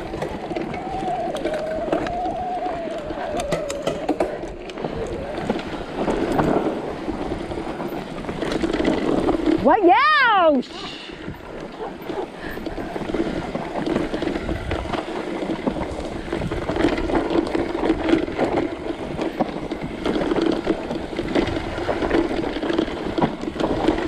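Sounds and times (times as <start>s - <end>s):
bike rattling and knocking: 0.0s - 24.0s
tyre and wind rush: 0.0s - 24.0s.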